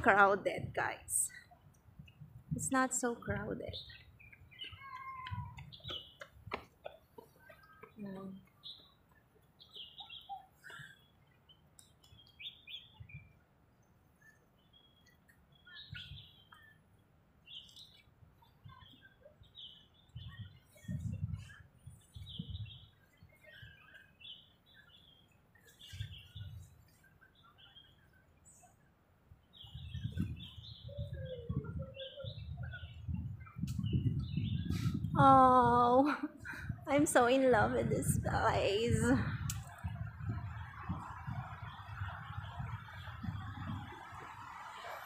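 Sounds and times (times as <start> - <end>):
small birds chirping: 0.0 - 44.7.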